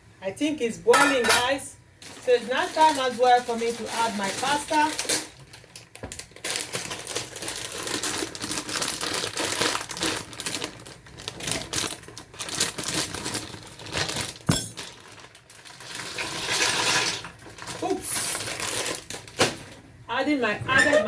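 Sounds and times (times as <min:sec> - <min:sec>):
plastic packet crinkling: 0:02.0 - 0:19.8.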